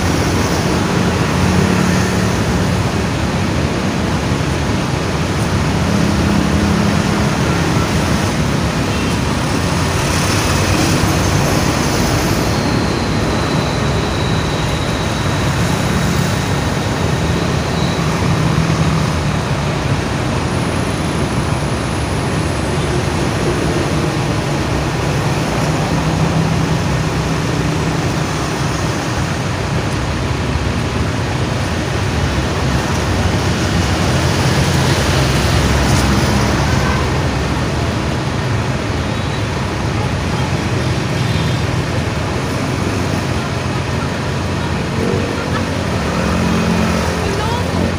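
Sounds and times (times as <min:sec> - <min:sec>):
road traffic: 0:00.0 - 0:47.9.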